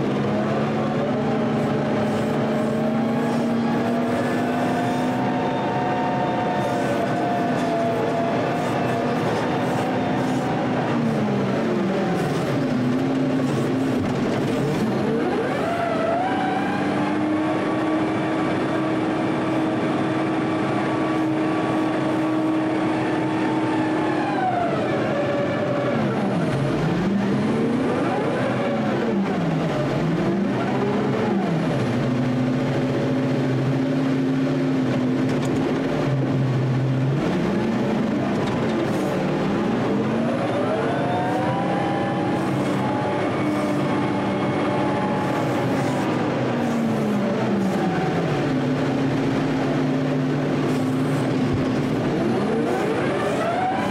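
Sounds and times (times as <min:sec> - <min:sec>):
loader engine working: 0:00.0 - 0:53.9.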